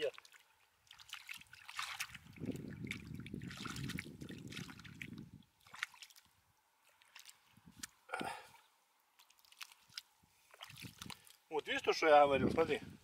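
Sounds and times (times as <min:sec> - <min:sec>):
water dripping: 0:00.0 - 0:08.4, 0:09.1 - 0:11.5
water sloshing and splashing: 0:00.0 - 0:12.7.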